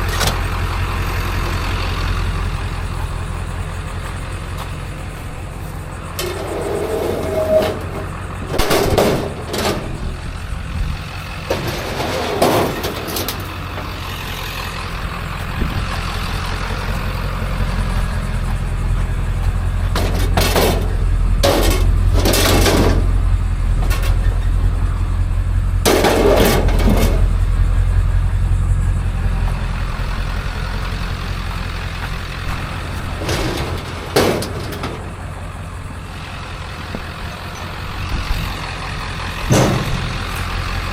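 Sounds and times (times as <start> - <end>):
motor vehicle low drone: 0.0 - 40.9.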